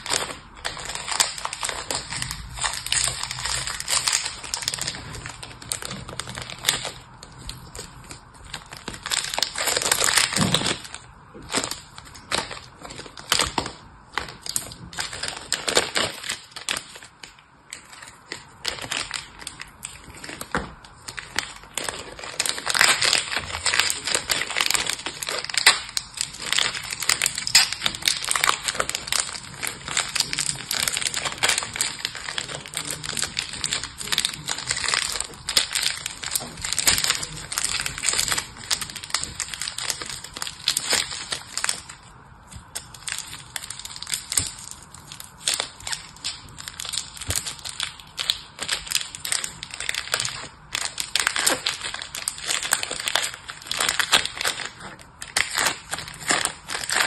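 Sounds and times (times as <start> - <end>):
plastic wrapper crinkling: 0.0 - 57.0.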